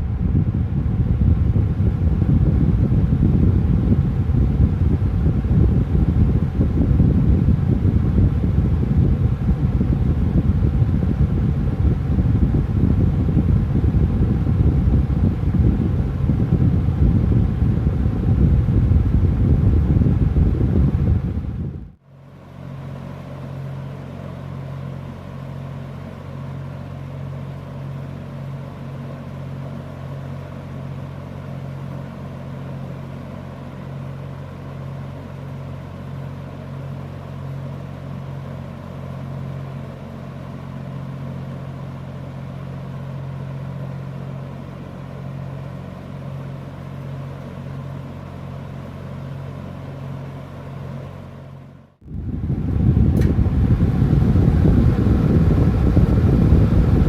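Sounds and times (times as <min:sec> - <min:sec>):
box fan running: 0:00.0 - 0:57.0.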